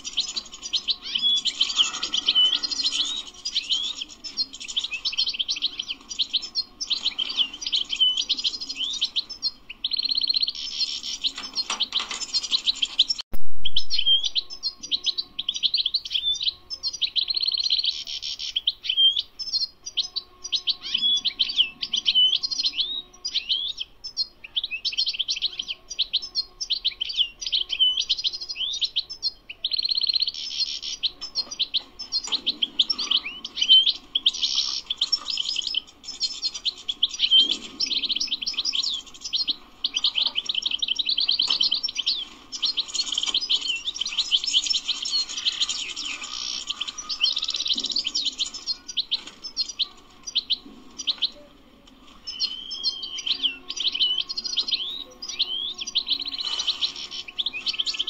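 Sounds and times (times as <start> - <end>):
goldfinch singing: 0.0 - 51.4, 52.0 - 58.0.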